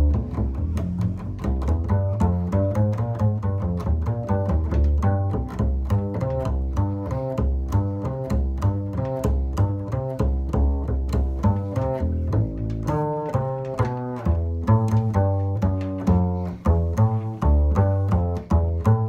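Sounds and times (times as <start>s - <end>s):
double bass plucked: 0.0s - 19.0s.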